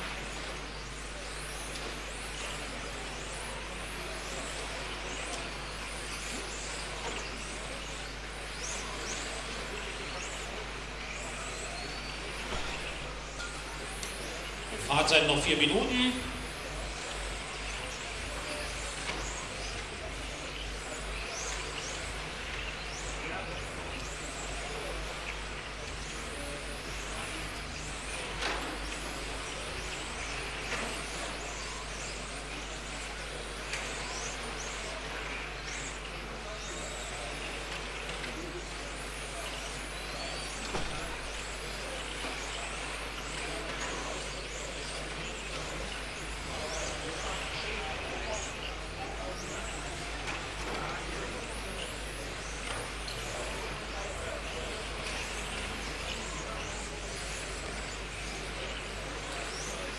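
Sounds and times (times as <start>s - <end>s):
rc car motors whining: 0.0s - 59.9s.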